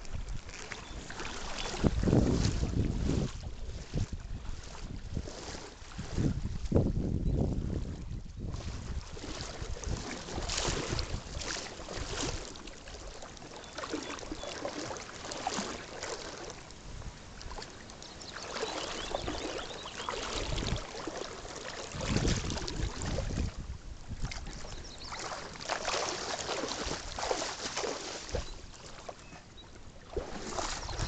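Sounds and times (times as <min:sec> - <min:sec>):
wind rumbling on microphone: 0:00.0 - 0:13.2, 0:16.8 - 0:26.0, 0:26.7 - 0:28.9, 0:29.6 - 0:31.0
river water rippling and splashing: 0:00.0 - 0:31.0.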